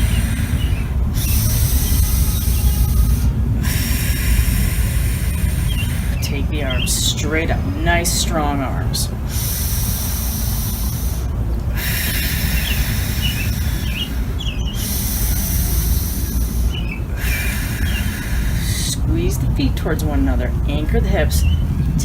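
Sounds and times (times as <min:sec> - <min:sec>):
high hissing buzz: 0:00.0 - 0:19.6
wind rumbling on microphone: 0:00.0 - 0:22.0.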